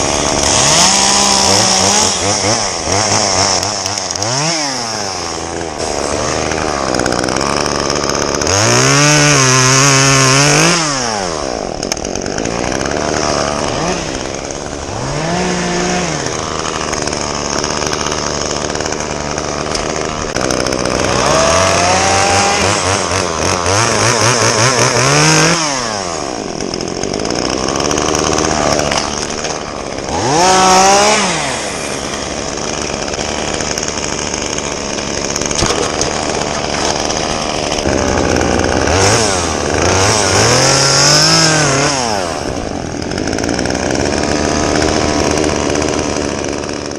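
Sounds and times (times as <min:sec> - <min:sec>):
chainsaw idling and revving: 0:00.0 - 0:46.9.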